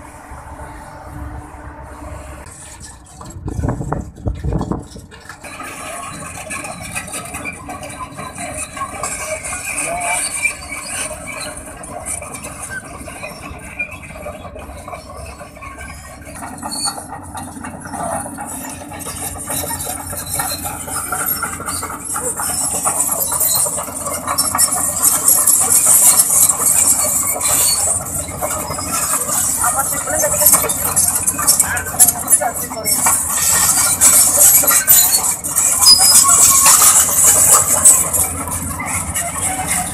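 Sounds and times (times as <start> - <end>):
crawler track chain rattling: 2.4 - 39.9.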